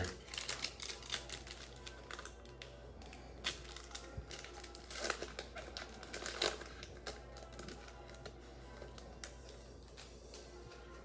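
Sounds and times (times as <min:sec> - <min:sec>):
wrapper crinkling: 0:00.0 - 0:11.0.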